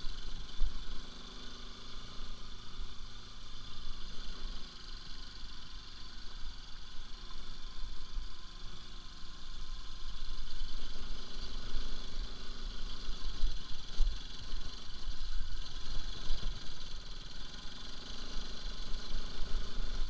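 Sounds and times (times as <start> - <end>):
low rumble of jolting ride: 0.0 - 20.0
motorcycle engine running: 0.0 - 20.0.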